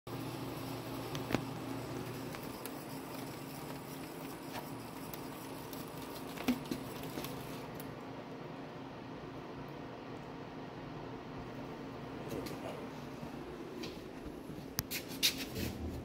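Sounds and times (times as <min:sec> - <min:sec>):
milling machine electrical hum: 0:00.1 - 0:16.0.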